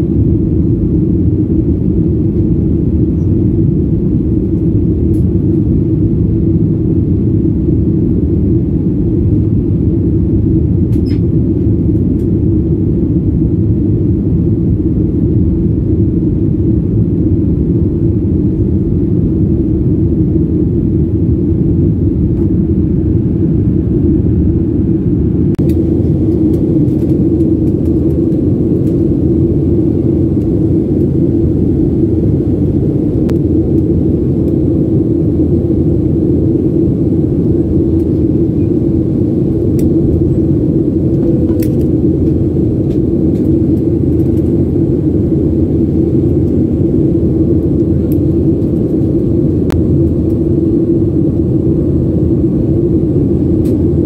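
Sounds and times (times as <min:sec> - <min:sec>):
aircraft cabin engine rumble: 0:00.0 - 0:54.0
steady hum: 0:00.0 - 0:54.0.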